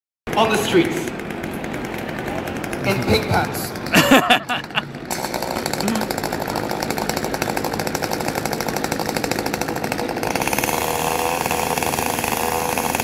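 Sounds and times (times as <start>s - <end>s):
chainsaw idling: 0.3s - 13.0s.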